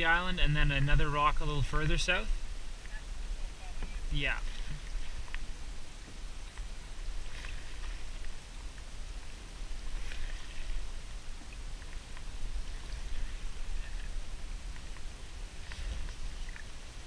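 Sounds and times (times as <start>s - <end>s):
steady low rumble: 0.0s - 17.0s
paddle splashing in water: 1.8s - 17.0s.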